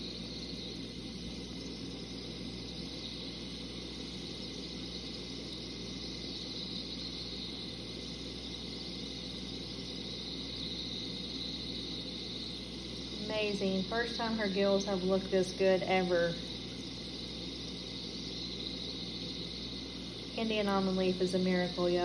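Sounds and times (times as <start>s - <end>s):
low hum: 0.0s - 22.0s
steady hiss: 0.0s - 22.0s.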